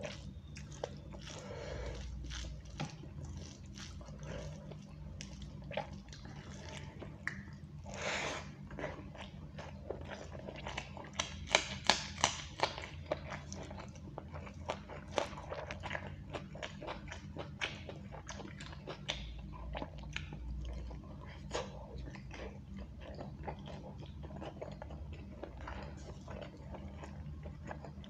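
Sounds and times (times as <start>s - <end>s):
wet chewing and lip smacking: 0.0s - 28.0s.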